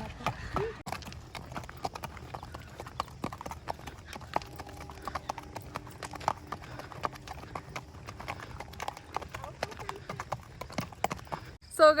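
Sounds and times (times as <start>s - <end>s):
horse hooves clip-clopping: 0.0s - 11.6s.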